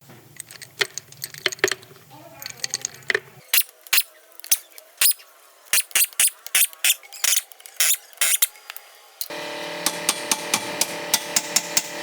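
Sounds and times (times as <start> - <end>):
hand tools clicking and knocking: 0.3 - 12.0.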